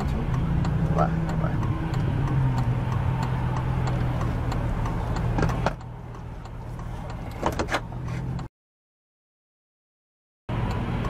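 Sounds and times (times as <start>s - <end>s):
car road and engine hum: 0.0s - 8.5s, 10.5s - 11.0s.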